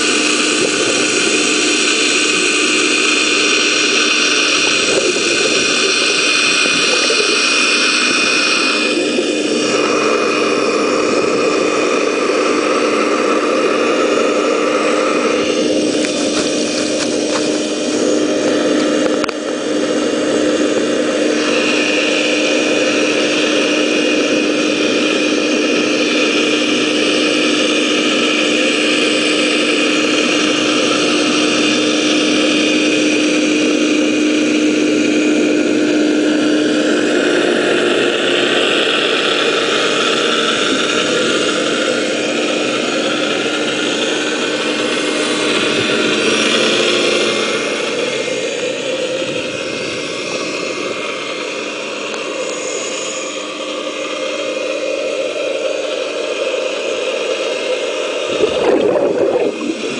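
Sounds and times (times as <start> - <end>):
engine and pump hum: 0.0 - 59.9
water rushing through hose: 0.0 - 59.9.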